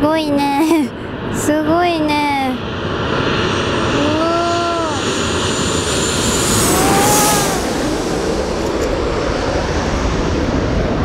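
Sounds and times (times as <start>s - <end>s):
high jet engine whine: 0.0s - 11.0s
jet airliner roar overhead: 0.0s - 11.0s.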